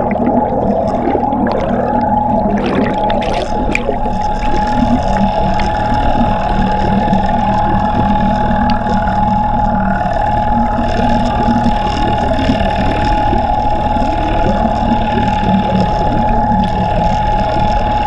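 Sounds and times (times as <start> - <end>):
outboard motor heard underwater: 0.0 - 18.0.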